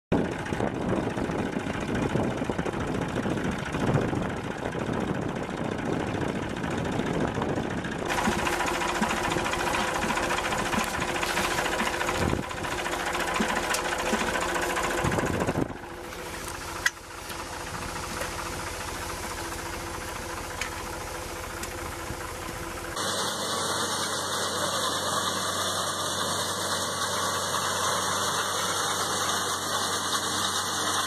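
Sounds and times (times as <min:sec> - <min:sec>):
tractor engine running: 0:00.1 - 0:31.0
planter feeder wheel whirring: 0:00.2 - 0:31.0.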